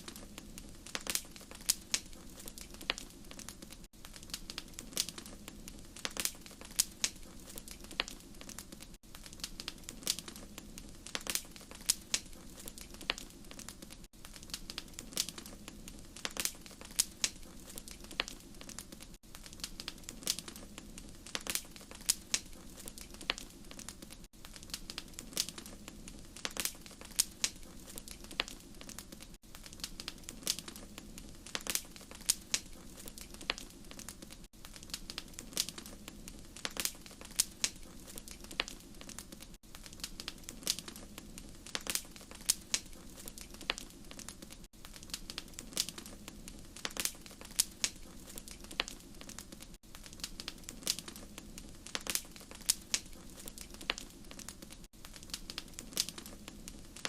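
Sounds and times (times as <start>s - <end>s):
fire low rumble: 0.0s - 57.0s
wood fire crackling: 0.0s - 57.0s.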